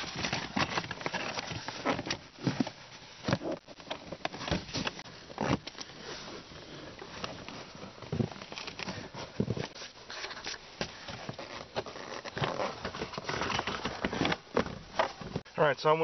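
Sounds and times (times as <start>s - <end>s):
carpet rustling and scuffing: 0.0s - 15.5s.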